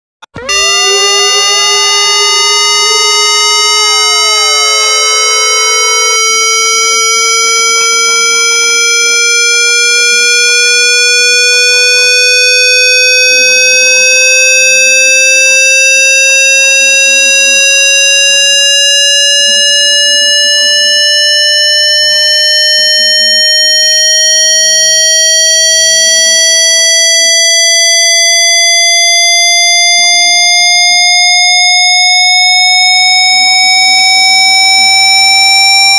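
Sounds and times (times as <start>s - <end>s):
buzzy synthesized tone rising: 0.3s - 35.9s.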